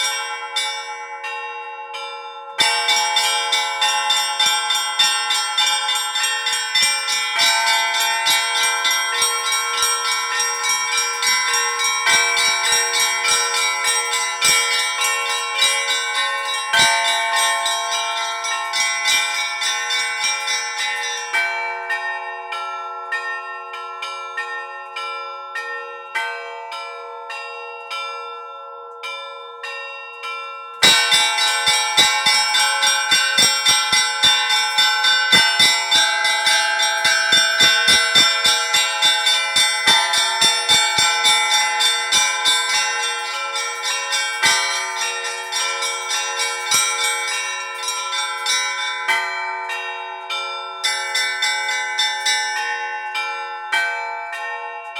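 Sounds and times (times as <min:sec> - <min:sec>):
church bells chiming: 0:00.0 - 0:54.9.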